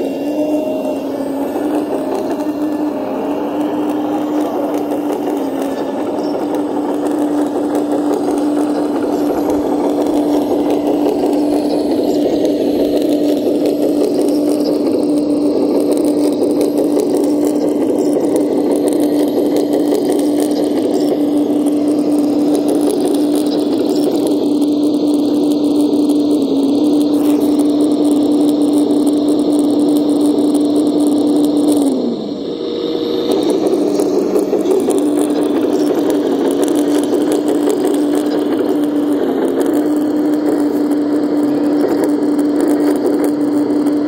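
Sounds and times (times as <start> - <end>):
electric motor whine: 0.0 - 44.0.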